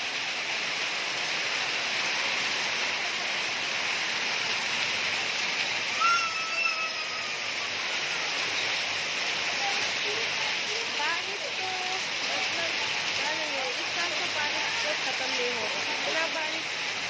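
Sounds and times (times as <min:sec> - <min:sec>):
heavy rain pouring: 0:00.0 - 0:17.0
water streaming off roof: 0:00.0 - 0:17.0.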